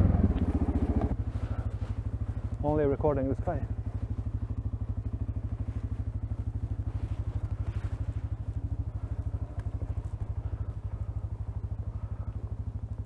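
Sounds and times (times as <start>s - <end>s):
engine running with rapid throb: 0.0s - 13.0s.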